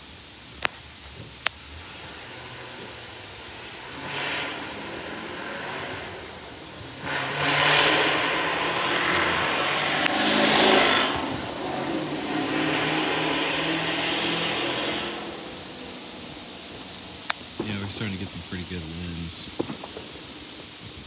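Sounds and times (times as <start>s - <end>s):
car accelerating past: 1.6s - 20.6s.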